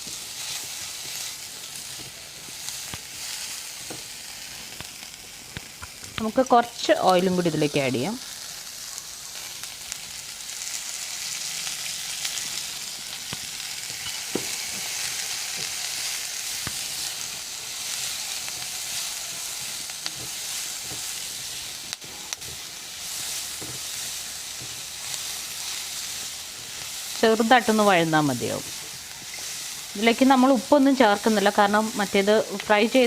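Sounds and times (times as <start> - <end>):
vegetables sizzling in hot oil: 0.0 - 33.0.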